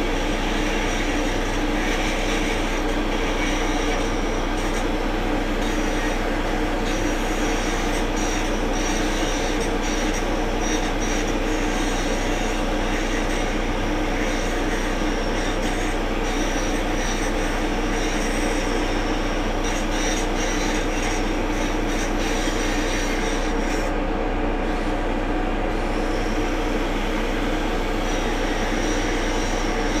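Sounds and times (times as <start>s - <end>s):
excavator diesel engine and hydraulics: 0.0s - 30.0s.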